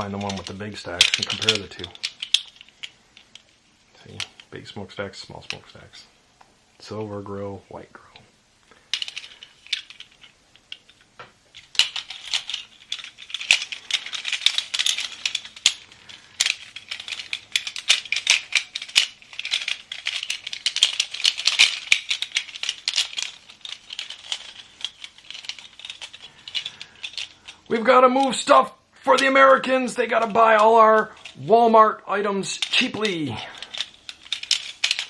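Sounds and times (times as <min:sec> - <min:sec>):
plastic toys clattering: 0:00.0 - 0:06.0, 0:08.7 - 0:35.0.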